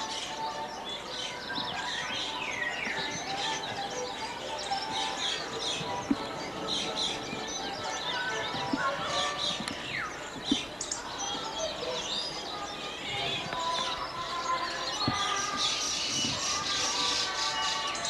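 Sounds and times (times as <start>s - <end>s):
background music with held tones: 0.0s - 18.0s
small birds chirping: 0.0s - 18.0s.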